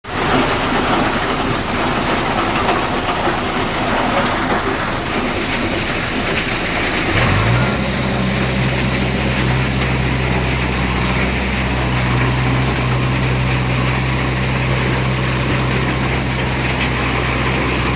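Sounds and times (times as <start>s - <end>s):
diesel engine clattering: 0.0s - 17.9s
low engine drone: 2.2s - 17.9s.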